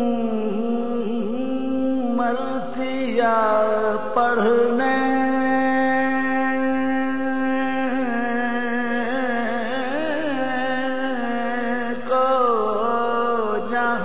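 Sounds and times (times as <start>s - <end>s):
man chanting a long note: 0.0s - 14.0s.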